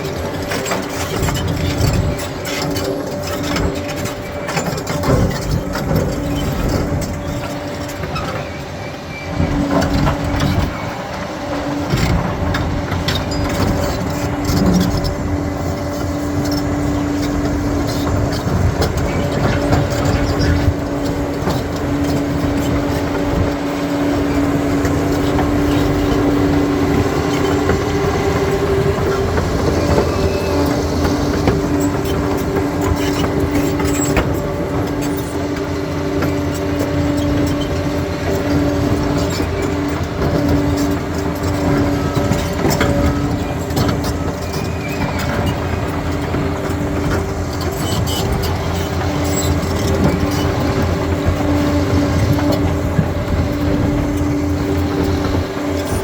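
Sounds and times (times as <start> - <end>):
diesel engine running: 0.0 - 56.0
steel crawler tracks clanking: 0.0 - 56.0.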